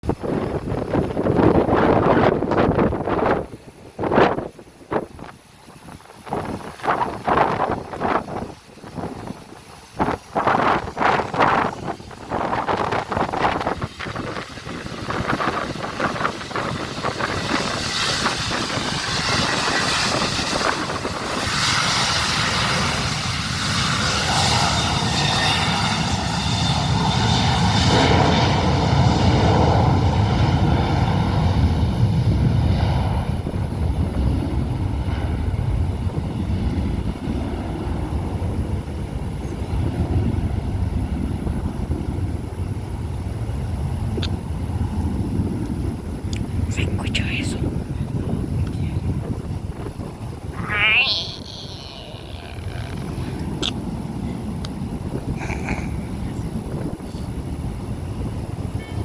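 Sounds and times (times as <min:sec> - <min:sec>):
jet engines passing: 0:00.0 - 0:59.0.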